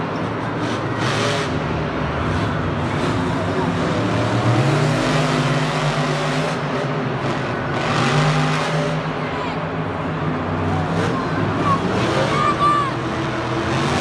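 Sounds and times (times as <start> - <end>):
vehicle engine revving: 0.2 - 9.2, 10.3 - 14.0.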